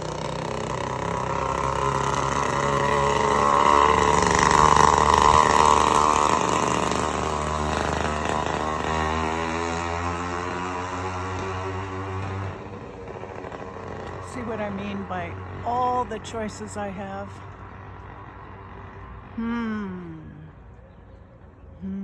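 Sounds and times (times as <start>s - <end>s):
motor vehicle driving past: 0.0s - 22.0s.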